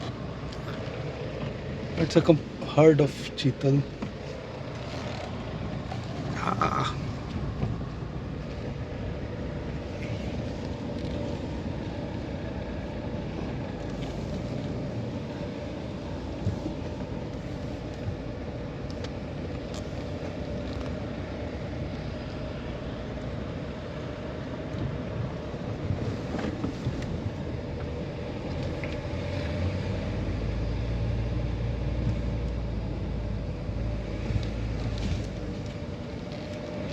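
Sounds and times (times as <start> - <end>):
vehicle engine and road noise: 0.0 - 36.9.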